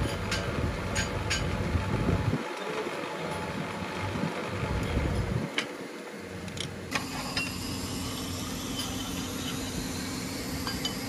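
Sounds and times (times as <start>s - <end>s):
steady low hum: 0.0s - 2.4s, 3.3s - 11.0s
workshop machinery running: 0.0s - 11.0s.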